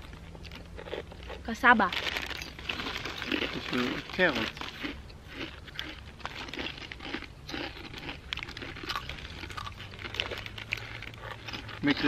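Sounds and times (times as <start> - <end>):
crinkling and crunching: 0.0 - 12.0.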